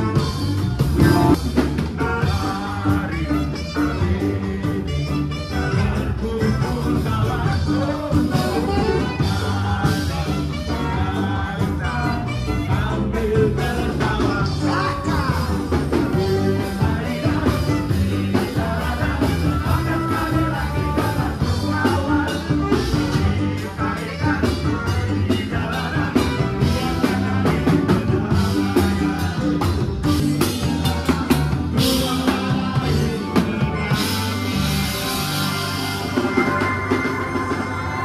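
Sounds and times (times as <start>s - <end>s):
person singing: 0.0s - 38.0s
upbeat band music: 0.0s - 38.0s.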